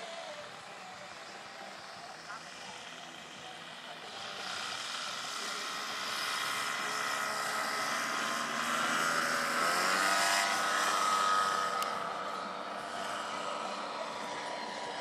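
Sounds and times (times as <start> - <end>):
model airplane engines fly-by: 0.0 - 15.0.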